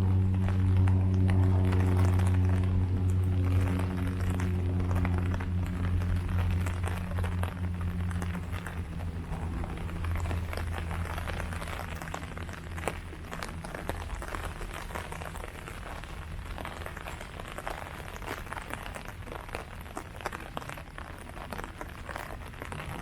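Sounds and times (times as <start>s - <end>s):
drops ticking: 0.0s - 23.0s
low steady hum: 0.0s - 23.0s
rain falling on leaves: 0.0s - 23.0s.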